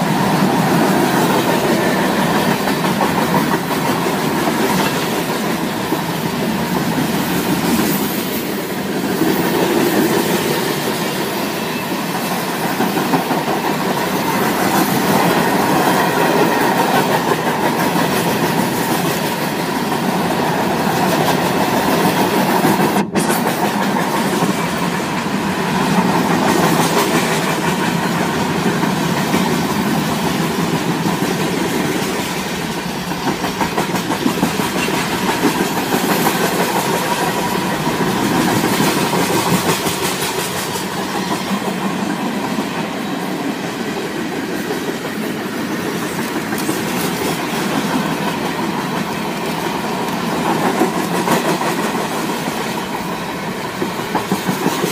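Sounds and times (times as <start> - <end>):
steel wheels clattering on rail: 0.0 - 54.9
train cars rolling past: 0.0 - 54.9.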